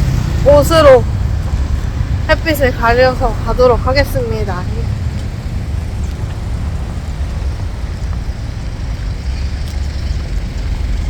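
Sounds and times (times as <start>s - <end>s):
street traffic rumble: 0.0s - 11.0s
wind buffeting microphone: 0.0s - 11.0s.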